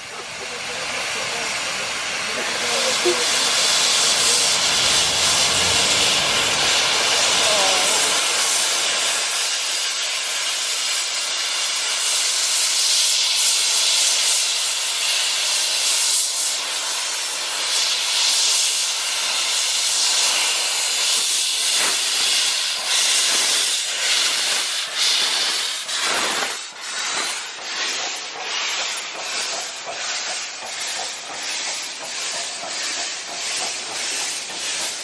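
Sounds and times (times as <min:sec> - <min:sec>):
steam exhaust chuffs: 0:00.0 - 0:35.0
steam hissing from locomotive: 0:00.0 - 0:35.0.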